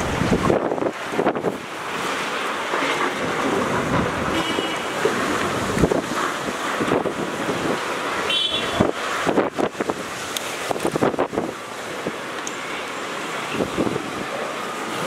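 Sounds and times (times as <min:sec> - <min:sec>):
storm wind gusting on microphone: 0:00.0 - 0:15.0.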